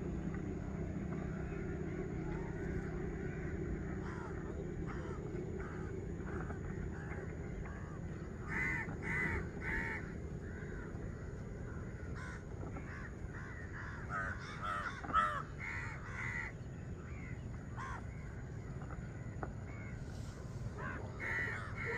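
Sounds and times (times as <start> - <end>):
low background rumble: 0.0 - 21.9
crows cawing: 1.1 - 18.2, 20.7 - 21.9.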